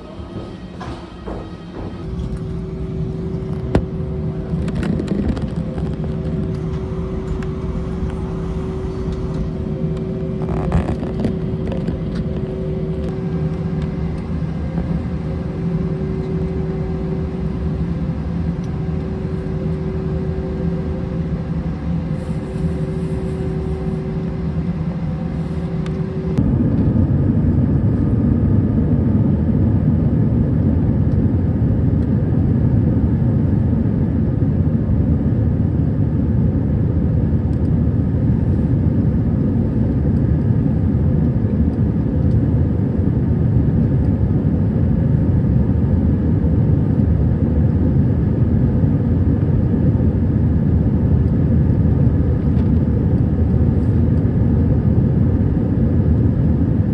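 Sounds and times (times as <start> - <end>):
airliner cabin rumble: 0.0 - 56.9
steady hum of tones: 0.0 - 56.9.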